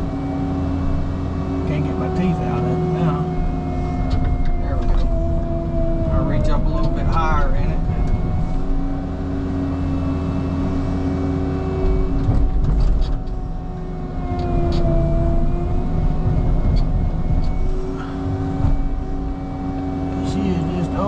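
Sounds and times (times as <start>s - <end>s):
diesel engine under load: 0.0s - 21.0s
hydraulic whine: 0.0s - 21.0s.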